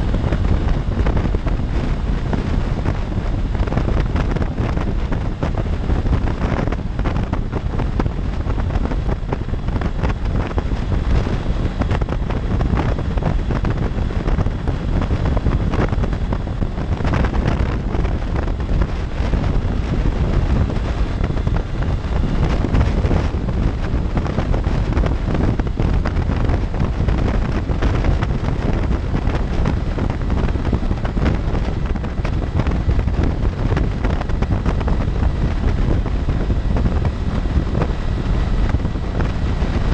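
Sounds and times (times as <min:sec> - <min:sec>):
heavy wind rush on microphone: 0:00.0 - 0:39.9
motorcycle running and tyre noise: 0:00.0 - 0:39.9.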